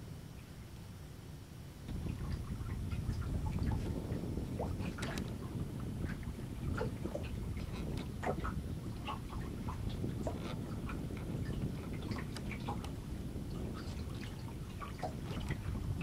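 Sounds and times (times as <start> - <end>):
steady low rumble: 0.0 - 16.0
water plinks and drips on hull: 1.9 - 16.0.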